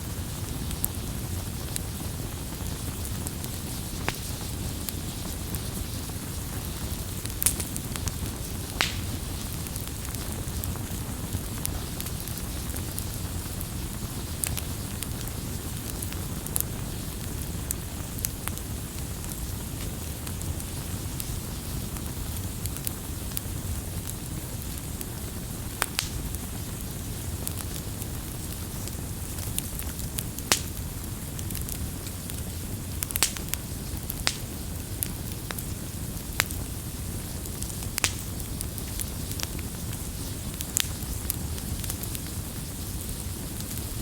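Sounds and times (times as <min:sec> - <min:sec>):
campfire crackling and popping: 0:00.0 - 0:44.0.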